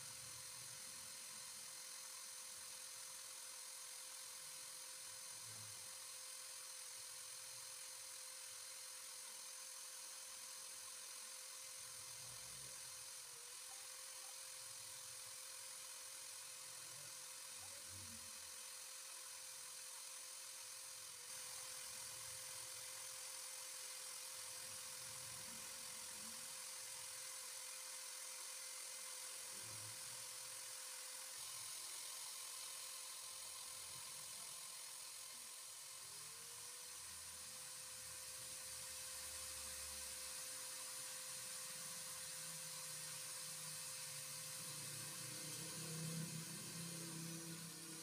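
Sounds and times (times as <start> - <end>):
electric drill whining: 0.0 - 48.0.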